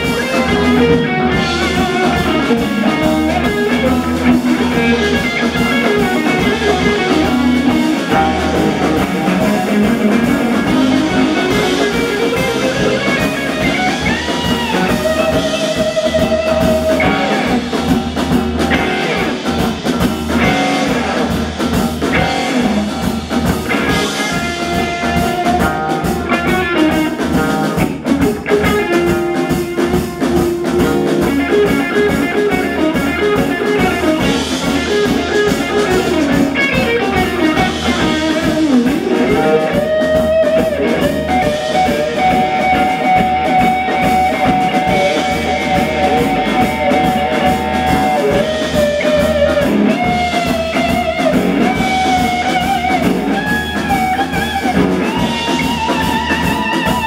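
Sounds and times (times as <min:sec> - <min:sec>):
electric guitar lead lines: 0:00.0 - 0:57.0
rock band playing: 0:00.0 - 0:57.0.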